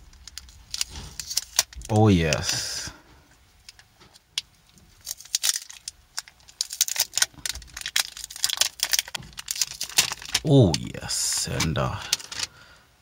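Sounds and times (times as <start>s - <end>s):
plastic film crinkling: 0.1s - 2.6s, 3.6s - 12.5s.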